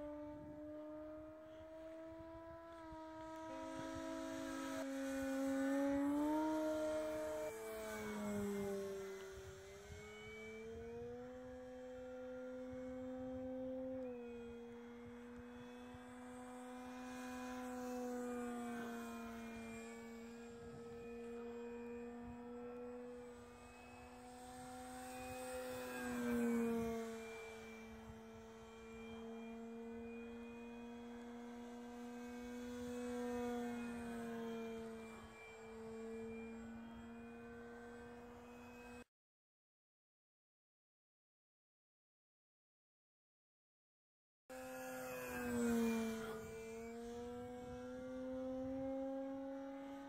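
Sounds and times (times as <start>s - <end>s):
model plane motor whine: 0.0s - 39.1s, 44.5s - 50.0s.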